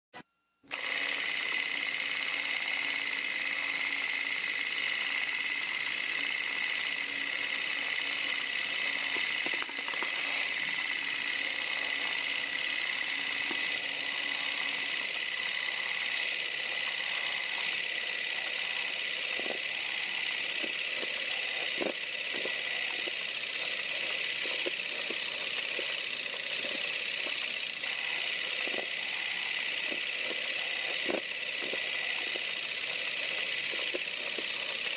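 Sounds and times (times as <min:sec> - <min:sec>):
film projector whirring: 0:00.7 - 0:34.9.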